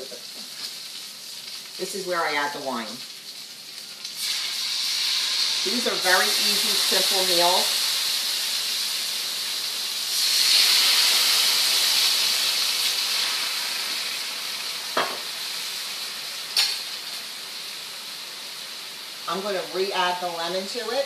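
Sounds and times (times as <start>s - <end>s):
meat sizzling in a skillet: 0.0s - 21.0s.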